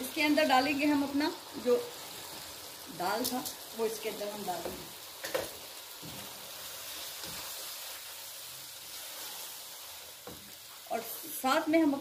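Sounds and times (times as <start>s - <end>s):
lentils sizzling in hot oil: 0.0s - 12.0s.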